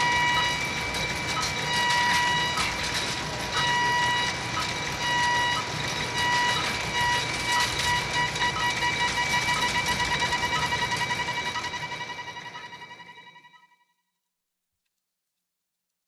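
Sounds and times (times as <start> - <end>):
pulsing electronic beep: 0.0 - 2.8, 3.5 - 13.7.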